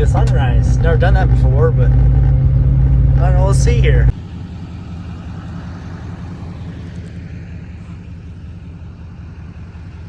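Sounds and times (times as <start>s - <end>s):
pickup truck engine running: 0.0s - 10.0s.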